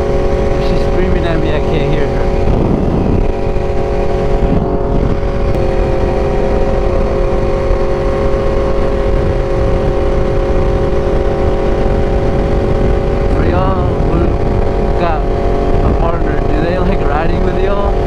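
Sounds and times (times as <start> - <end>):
motorcycle engine cruising: 0.0 - 18.0
wind noise: 0.0 - 18.0.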